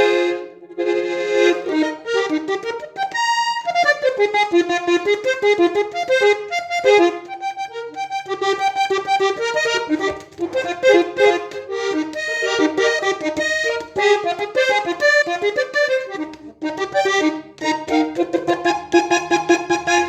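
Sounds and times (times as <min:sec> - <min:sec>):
button accordion melody: 0:00.0 - 0:20.0.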